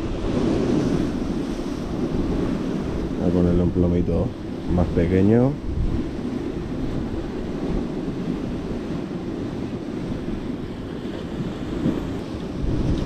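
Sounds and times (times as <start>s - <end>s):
rough sea breaking on shore: 0.0s - 13.0s
wind buffeting microphone: 0.0s - 13.0s.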